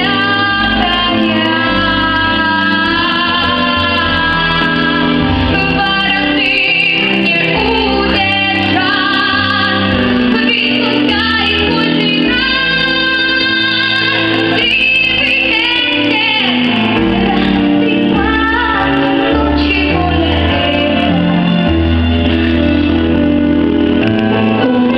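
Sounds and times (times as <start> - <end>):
woman singing: 0.0 - 22.8
instrumental accompaniment: 0.0 - 24.9.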